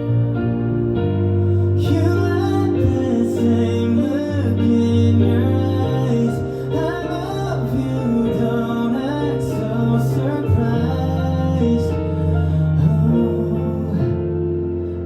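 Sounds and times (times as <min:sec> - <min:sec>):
keyboard: 0:00.0 - 0:15.0
sustained bass: 0:00.0 - 0:15.0
man singing: 0:01.8 - 0:15.0.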